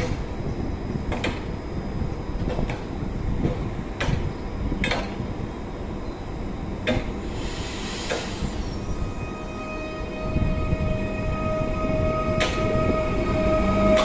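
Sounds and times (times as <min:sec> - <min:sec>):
electric train low rumble: 0:00.0 - 0:14.0.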